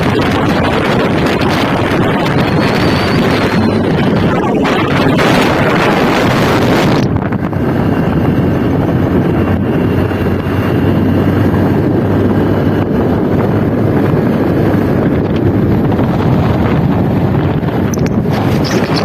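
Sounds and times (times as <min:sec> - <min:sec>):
motorcycle low hum: 0:00.0 - 0:19.0
wind rushing over microphone: 0:00.0 - 0:19.0.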